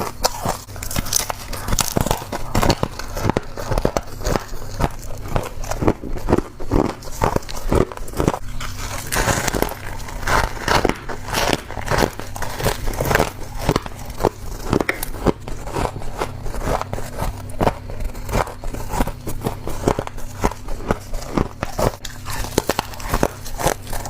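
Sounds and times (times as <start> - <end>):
frost crunching when chewed: 0.0 - 24.0.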